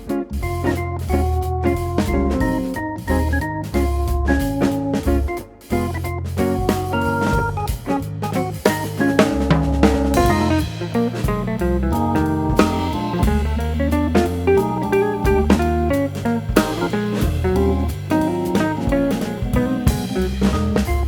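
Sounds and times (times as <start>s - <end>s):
guitar-led band music: 0.0s - 21.0s.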